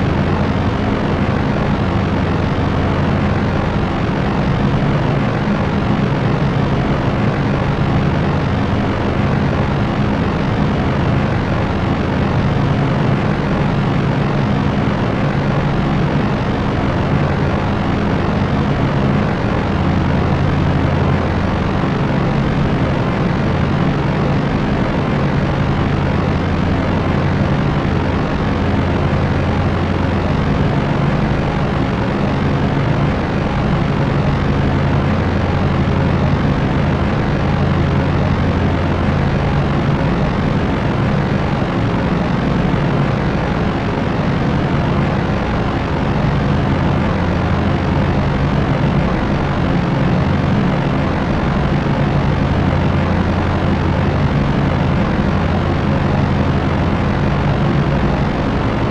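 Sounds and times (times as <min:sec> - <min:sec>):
propeller aircraft engines droning: 0:00.0 - 0:58.9.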